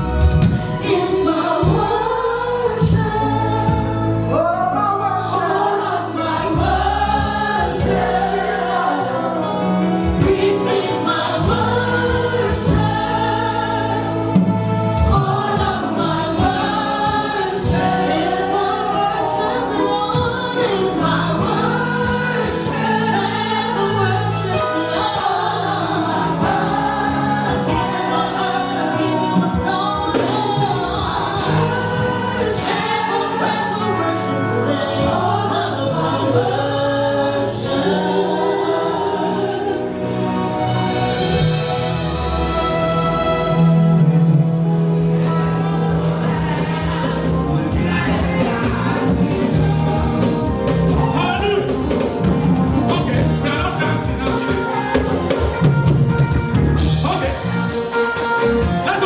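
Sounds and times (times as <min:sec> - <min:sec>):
gospel choir singing: 0:00.0 - 0:59.0.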